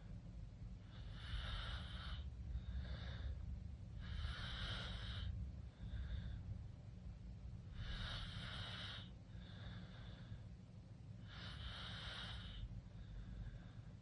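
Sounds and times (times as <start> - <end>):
steady low rumble: 0.0 - 11.6, 12.4 - 14.0.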